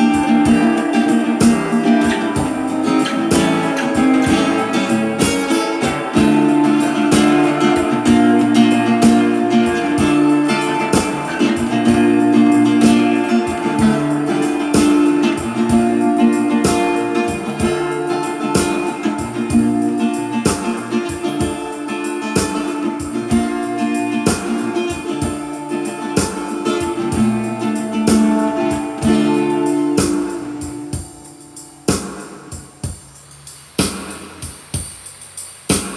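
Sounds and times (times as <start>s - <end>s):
guitar-led instrumental music: 0.0s - 35.9s.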